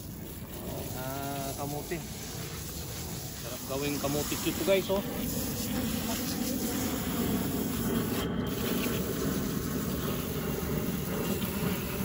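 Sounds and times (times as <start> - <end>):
hose spray nozzle hissing: 0.0 - 12.0.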